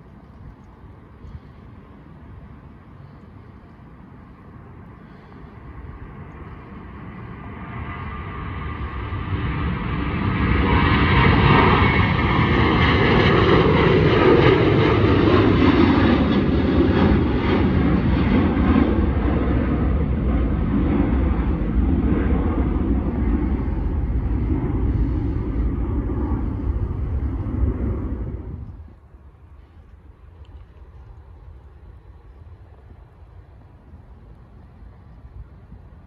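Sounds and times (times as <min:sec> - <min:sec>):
jet airliner taking off: 0:02.6 - 0:36.0.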